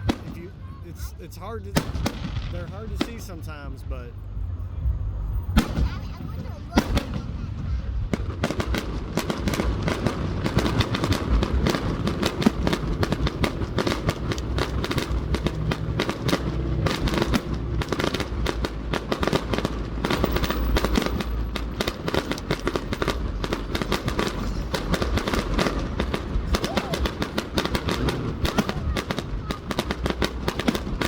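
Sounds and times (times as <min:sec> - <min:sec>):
fireworks bangs and crackles: 0:00.0 - 0:04.2, 0:05.4 - 0:31.0
low rumble of booms: 0:01.6 - 0:31.0.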